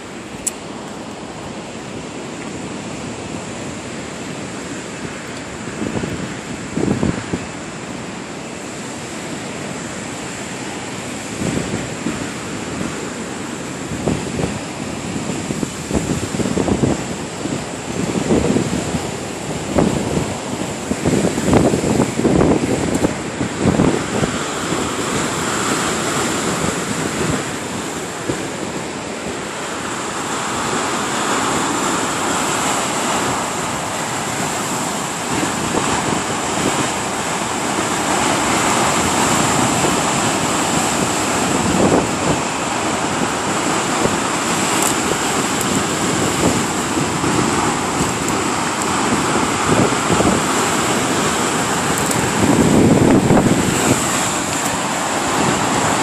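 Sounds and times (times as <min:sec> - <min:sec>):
waves breaking on shore: 0:00.0 - 0:56.0
wind on microphone: 0:00.0 - 0:56.0.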